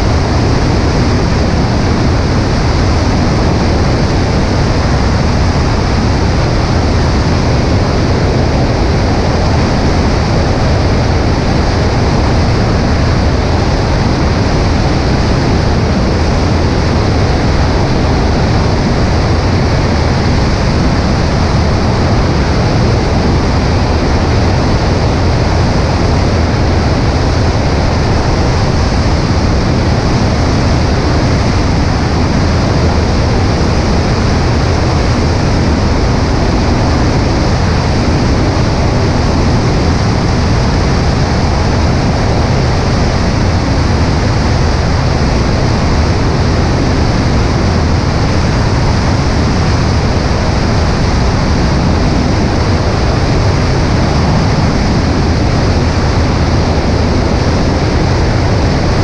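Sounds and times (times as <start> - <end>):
aircraft engine and propeller drone: 0.0 - 59.0
wind rushing over microphone: 0.0 - 59.0.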